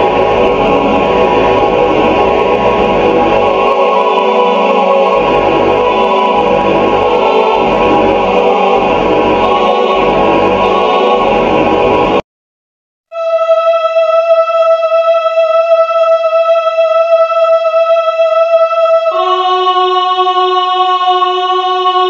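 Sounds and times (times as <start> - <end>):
choir-like music: 0.0 - 12.2, 13.1 - 22.0.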